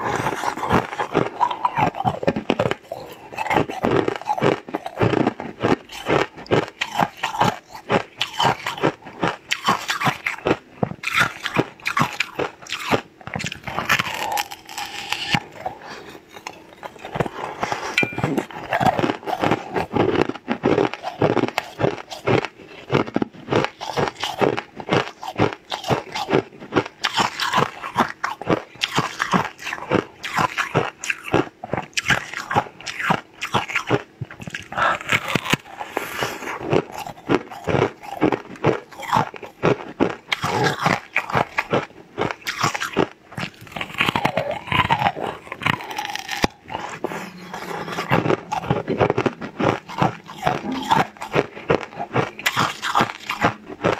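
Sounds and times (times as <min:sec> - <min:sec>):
crunchy biting and chewing: 0:00.0 - 0:53.9.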